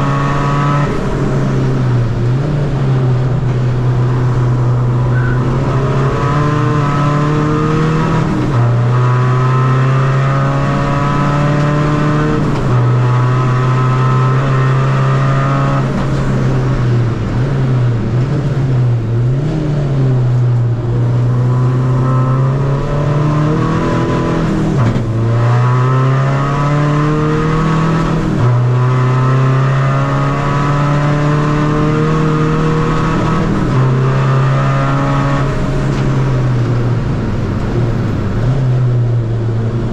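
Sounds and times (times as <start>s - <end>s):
diesel car engine accelerating: 0.0s - 39.9s.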